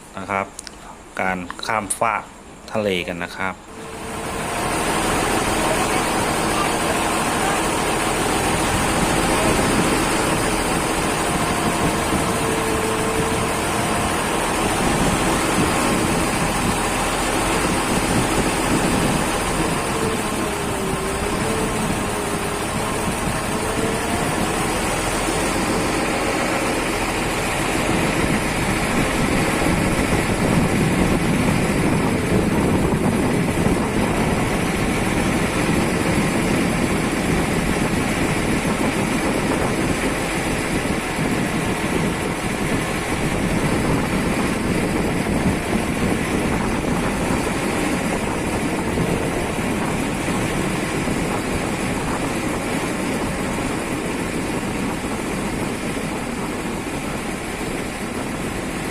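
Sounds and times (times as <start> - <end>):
ferry engine running: 3.4 - 58.9.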